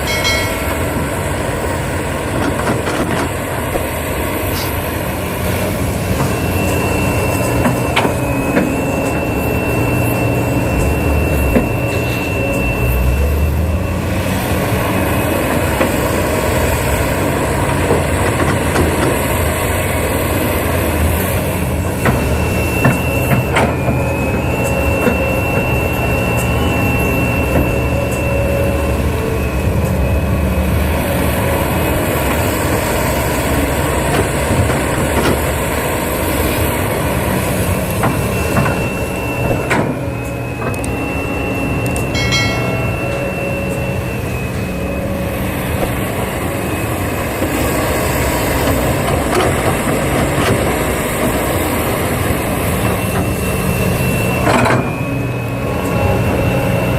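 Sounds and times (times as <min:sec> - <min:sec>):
engine-like hum: 0:00.0 - 0:56.9.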